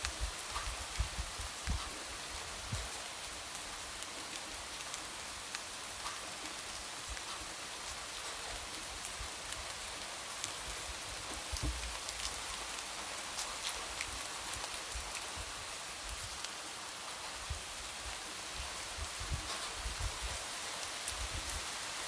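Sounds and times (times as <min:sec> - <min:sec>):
light rain: 0:00.0 - 0:22.0.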